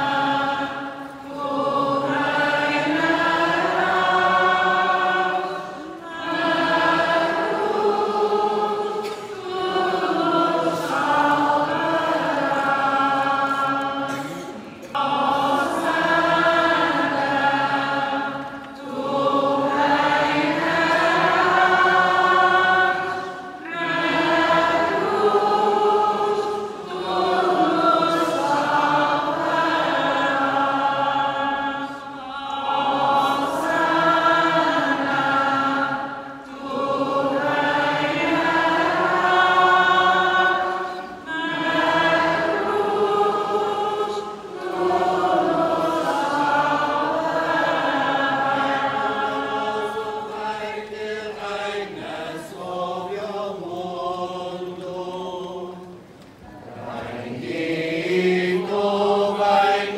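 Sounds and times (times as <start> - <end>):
choir singing a slow chant: 0.0 - 59.9.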